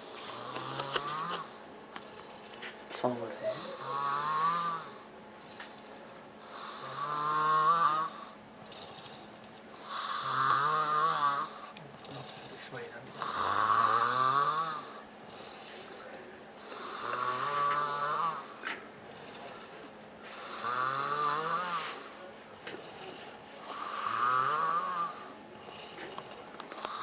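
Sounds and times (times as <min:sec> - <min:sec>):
quiet breathing: 0:00.0 - 0:07.1, 0:08.0 - 0:27.0
man snoring: 0:00.1 - 0:01.7, 0:03.3 - 0:05.1, 0:06.4 - 0:09.2, 0:09.8 - 0:27.0.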